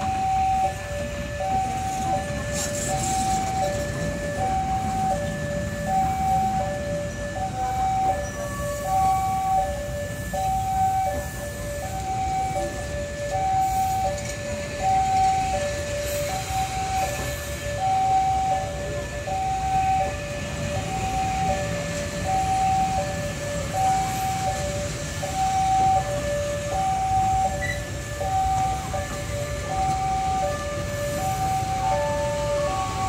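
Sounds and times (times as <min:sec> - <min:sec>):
low rumble of train coaches: 0:00.0 - 0:33.0
two-tone electronic warning chime: 0:00.0 - 0:33.0.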